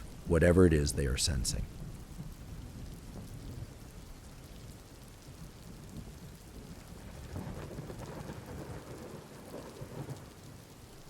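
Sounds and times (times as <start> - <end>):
steady rain: 0.0 - 11.0
low thunder rumbling: 1.2 - 11.0.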